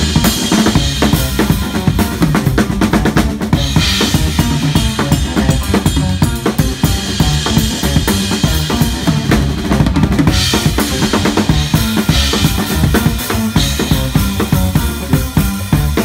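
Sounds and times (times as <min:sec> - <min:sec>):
drum kit solo: 0:00.0 - 0:16.0.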